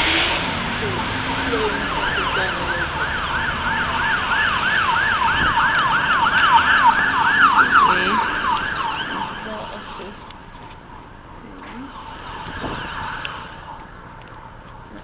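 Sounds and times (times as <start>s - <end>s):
emergency siren yelping: 0.0s - 15.0s.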